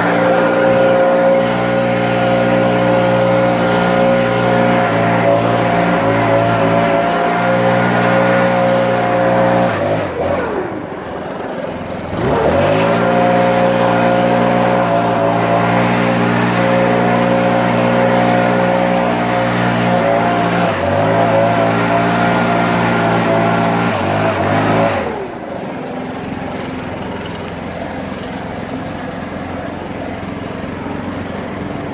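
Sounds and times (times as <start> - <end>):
small gas engine revving: 0.0 - 31.9.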